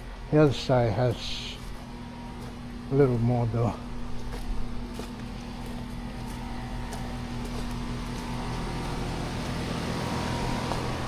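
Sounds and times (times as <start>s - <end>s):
constant hiss: 0.0s - 11.0s
motor humming: 0.0s - 11.0s.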